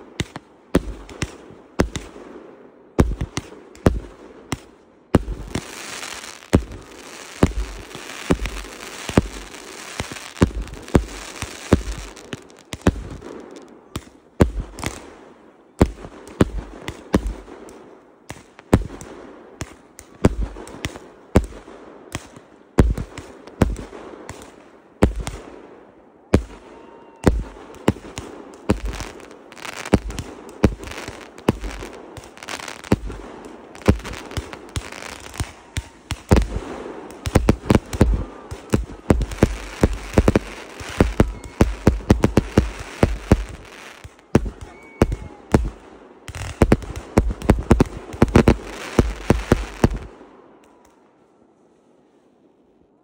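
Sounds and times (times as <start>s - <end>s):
fireworks crackling hiss: 0.0s - 25.6s, 27.2s - 50.2s
fireworks bangs: 0.0s - 50.4s.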